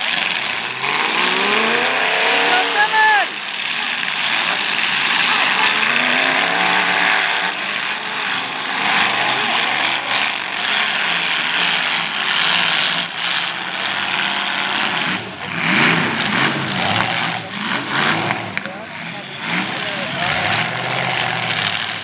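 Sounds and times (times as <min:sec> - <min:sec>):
car engines revving: 0:00.0 - 0:22.0
cars knocking together: 0:00.0 - 0:22.0.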